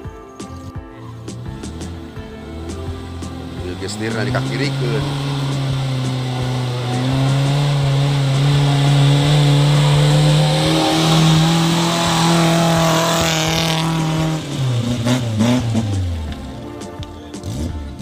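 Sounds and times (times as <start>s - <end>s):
engine revving under load: 1.3s - 16.8s, 17.4s - 18.0s.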